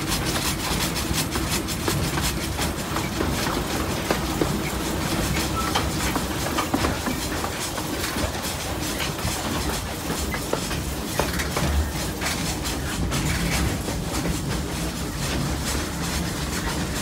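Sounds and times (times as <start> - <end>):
train rumbling on track: 0.0 - 17.0
wheel and carriage clicks and rattles: 0.0 - 17.0.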